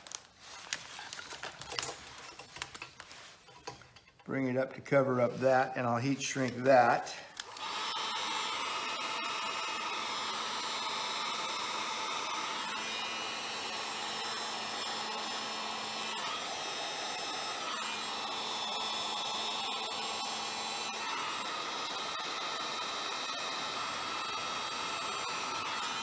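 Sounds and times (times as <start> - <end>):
heat gun fan blowing: 0.0 - 26.0.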